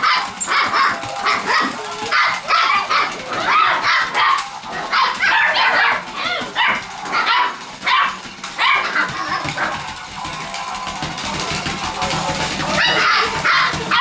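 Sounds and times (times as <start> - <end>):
puppies yapping: 0.0 - 10.4, 12.1 - 14.0.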